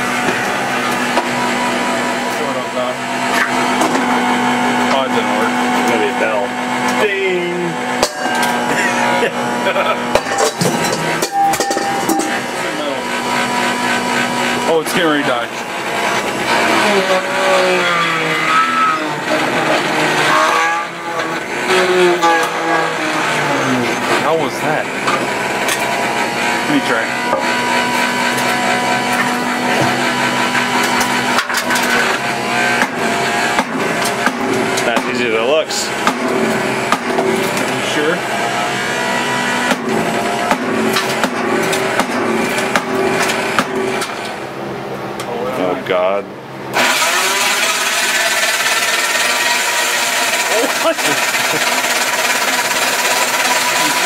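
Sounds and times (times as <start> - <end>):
mixer motor whine: 0.0 - 54.0.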